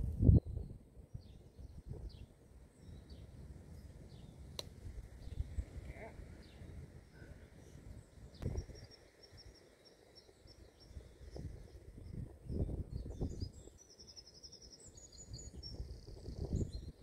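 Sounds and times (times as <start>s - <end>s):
birds chirping: 0.4s - 17.0s.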